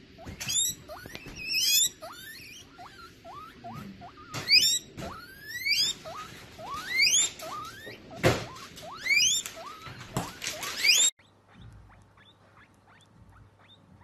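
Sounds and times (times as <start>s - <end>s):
guinea pig squeaking: 0.0s - 14.0s.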